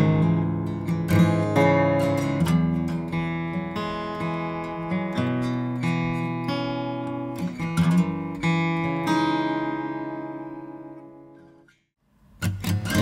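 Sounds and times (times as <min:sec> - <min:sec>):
acoustic guitar strummed chords: 0:00.0 - 0:11.8, 0:12.4 - 0:13.0.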